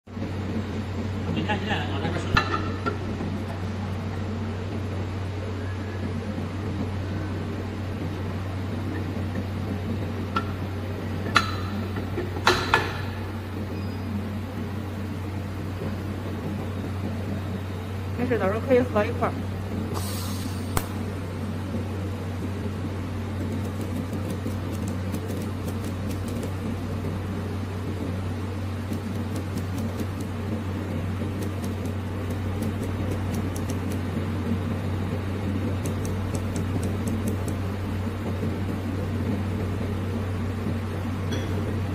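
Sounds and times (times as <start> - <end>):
low electrical hum: 0.0 - 41.9.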